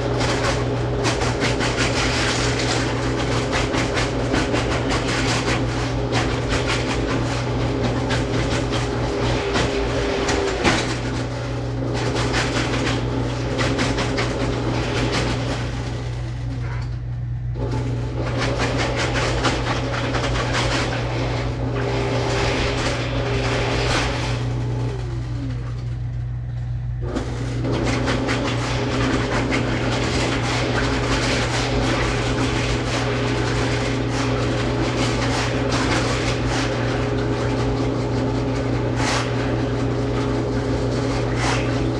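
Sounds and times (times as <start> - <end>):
drain-cleaning machine motor running: 0.0 - 41.9.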